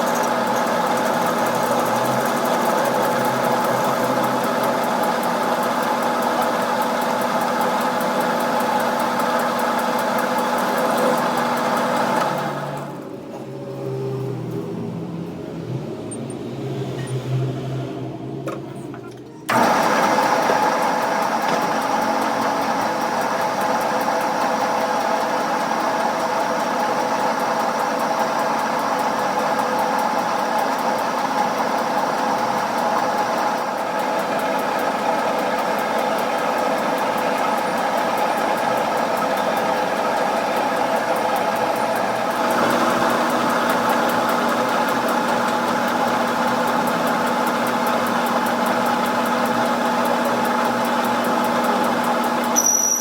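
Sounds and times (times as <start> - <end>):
machine motor humming: 0.0 - 53.0.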